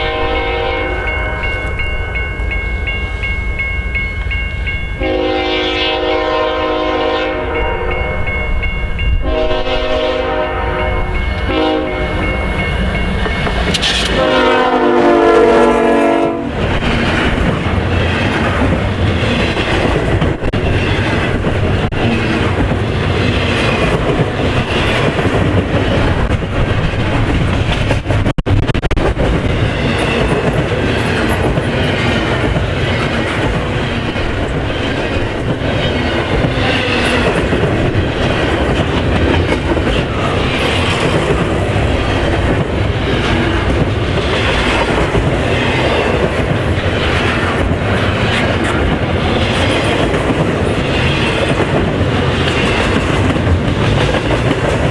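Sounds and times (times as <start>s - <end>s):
train wheels clacking on rails: 7.5s - 54.9s.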